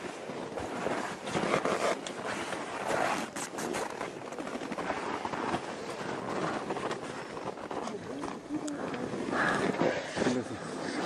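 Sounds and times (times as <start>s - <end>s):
suit rustling against microphone: 0.0s - 11.0s
short crackles: 0.5s - 11.0s.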